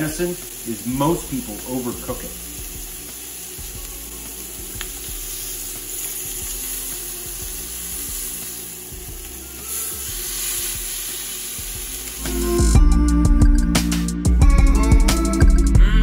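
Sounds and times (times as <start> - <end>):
meat sizzling in a grill pan: 0.0 - 12.9.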